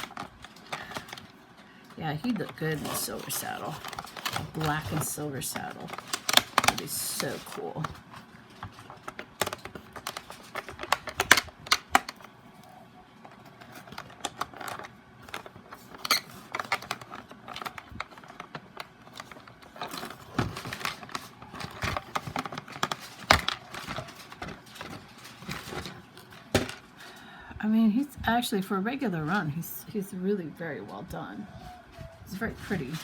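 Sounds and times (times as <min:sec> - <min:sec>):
hands handling packaging: 0:00.0 - 0:27.2.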